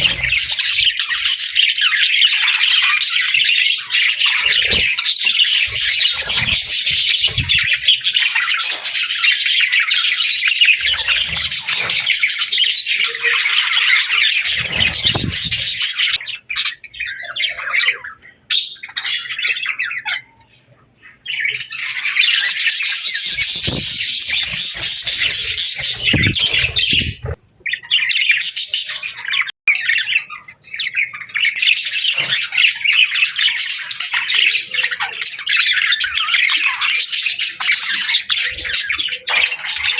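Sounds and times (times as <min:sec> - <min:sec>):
parrots chattering and squawking: 0:00.0 - 0:39.9.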